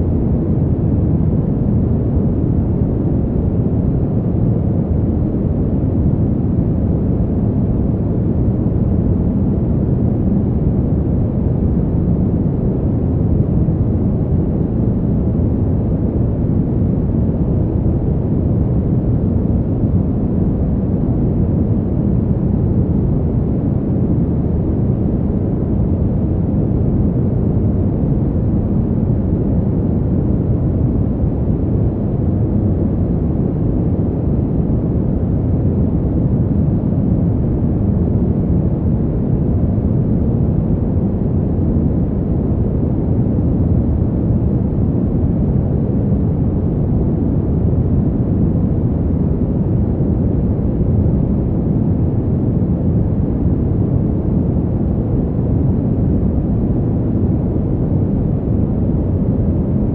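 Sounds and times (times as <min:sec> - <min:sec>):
fan heater air rush: 0:00.0 - 0:59.9.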